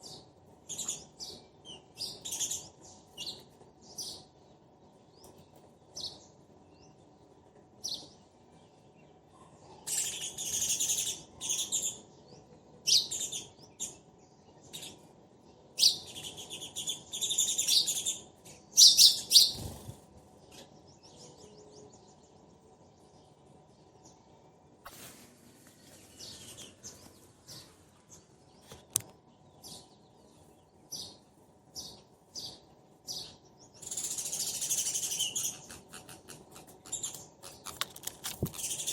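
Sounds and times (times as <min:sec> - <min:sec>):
sparrows chirping: 0:00.0 - 0:24.8, 0:25.7 - 0:38.9.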